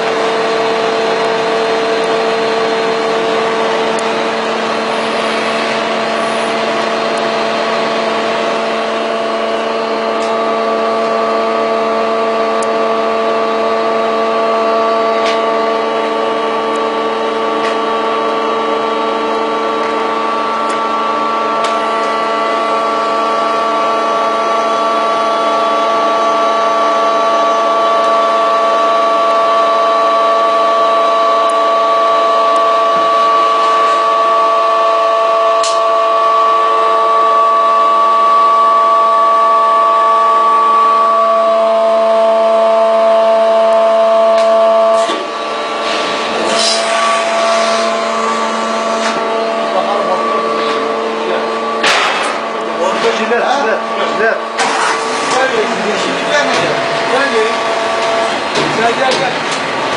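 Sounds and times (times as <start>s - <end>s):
machine humming and whirring: 0.0s - 59.9s.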